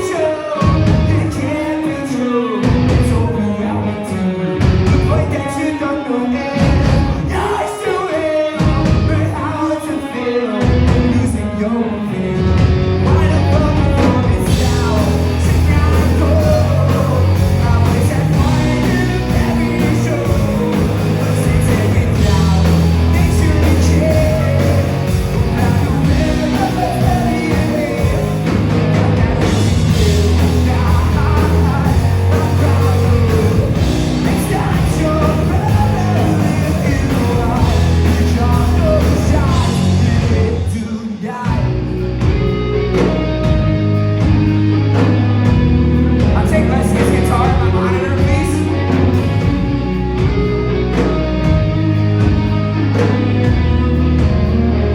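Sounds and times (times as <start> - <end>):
person singing: 0.0 - 44.0
live rock band: 0.0 - 54.9.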